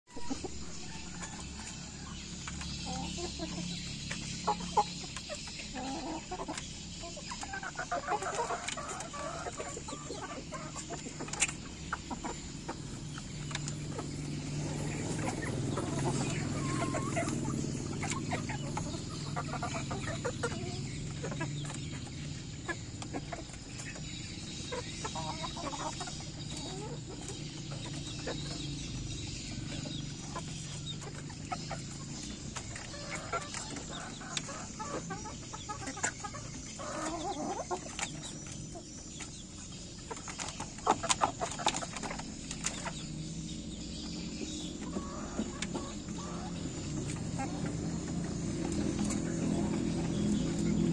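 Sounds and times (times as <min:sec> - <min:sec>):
young chickens clucking: 0:00.1 - 0:50.9.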